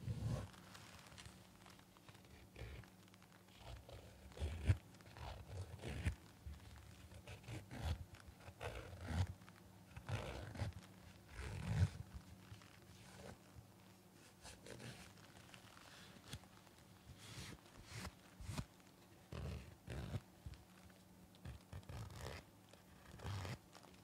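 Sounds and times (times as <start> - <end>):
face mask crinkling: 0.0 - 24.0.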